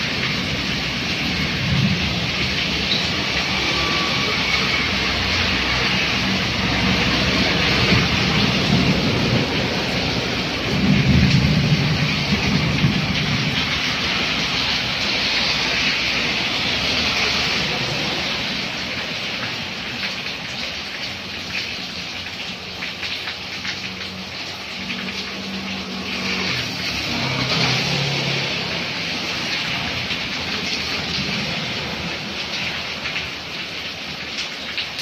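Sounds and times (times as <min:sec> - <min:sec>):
car tyres swishing through water: 0:00.0 - 0:35.0
steady rain on wet street: 0:00.0 - 0:35.0.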